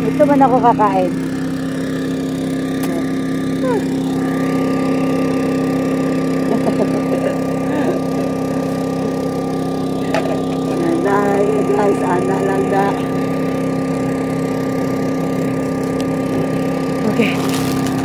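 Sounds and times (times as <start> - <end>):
engine droning hum: 0.0 - 18.0.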